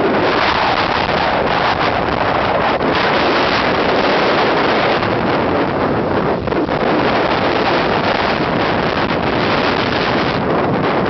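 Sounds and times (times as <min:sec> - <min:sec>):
heavy surf breaking on seawall: 0:00.0 - 0:11.0
wind buffeting microphone: 0:00.0 - 0:11.0.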